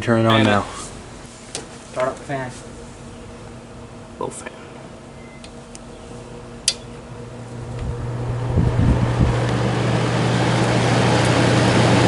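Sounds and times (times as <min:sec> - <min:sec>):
air conditioner fan humming: 0:00.0 - 0:12.0.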